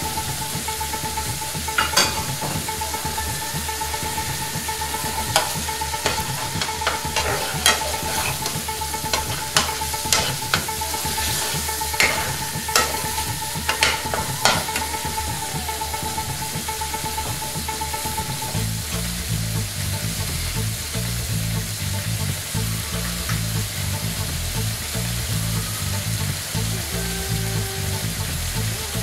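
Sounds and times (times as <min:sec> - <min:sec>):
sauce simmering and sizzling: 0:00.0 - 0:29.0.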